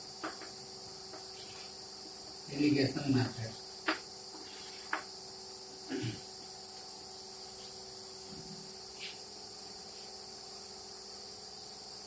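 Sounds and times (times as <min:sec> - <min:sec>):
faint steady hum: 0:00.0 - 0:12.0
insect chirring: 0:00.0 - 0:12.0.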